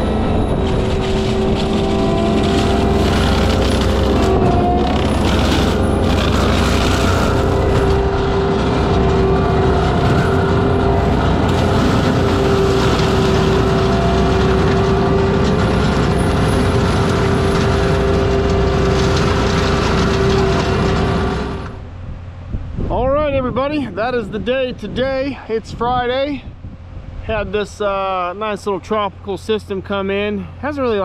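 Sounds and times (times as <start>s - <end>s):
track loader with mulcher running: 0.0s - 31.0s.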